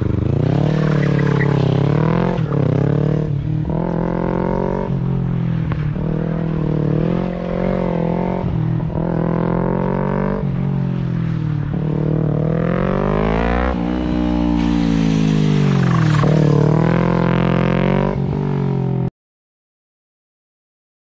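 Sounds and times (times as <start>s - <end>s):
motorcycle engine revving: 0.0s - 19.1s.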